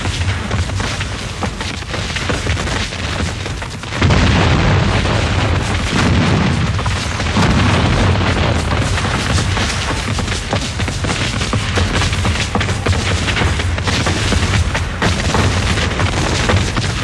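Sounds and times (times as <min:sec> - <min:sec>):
cannon booming: 0:00.0 - 0:17.0
crackle of musket fire: 0:00.0 - 0:17.0.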